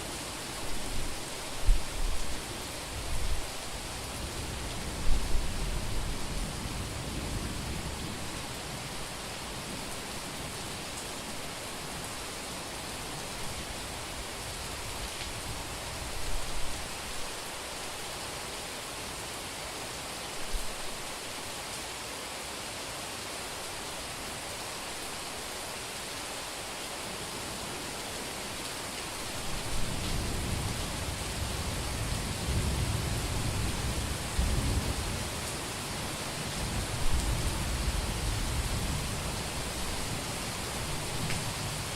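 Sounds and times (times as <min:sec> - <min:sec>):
heavy rain on a street: 0:00.0 - 0:41.9.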